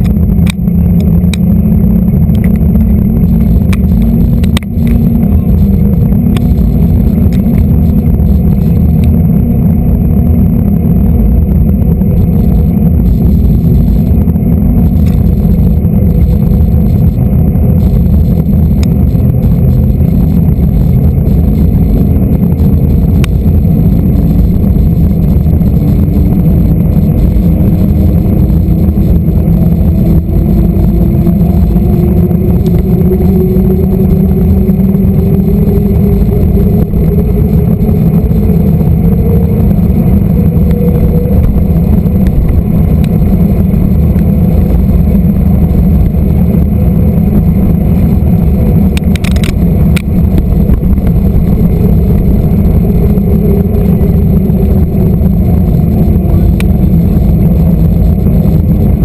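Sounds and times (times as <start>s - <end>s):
bicycle tyres rumbling on asphalt: 0.0s - 59.0s
faint hum rising in pitch: 0.0s - 59.0s
wind buffeting microphone: 0.0s - 59.0s.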